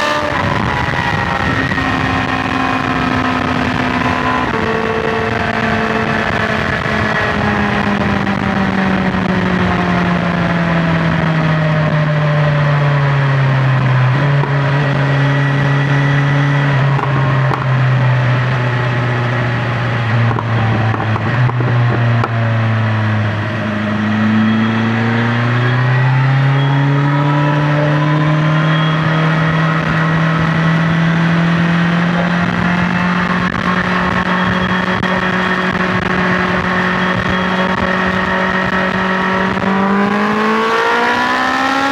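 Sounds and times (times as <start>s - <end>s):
motorcycle engine at speed: 0.0s - 41.9s
road noise: 0.0s - 41.9s
wind noise: 0.0s - 41.9s.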